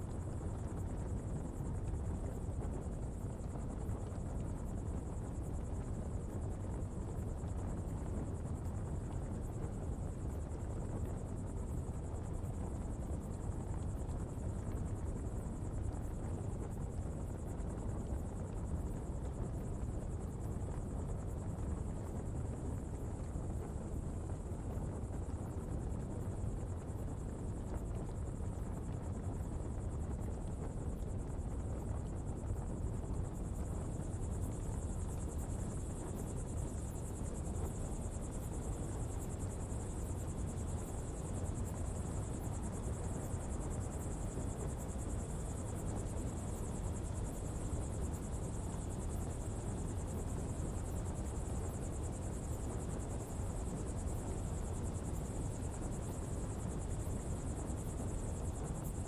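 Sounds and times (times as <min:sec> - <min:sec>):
fire burning with low rumble: 0:00.0 - 0:59.0.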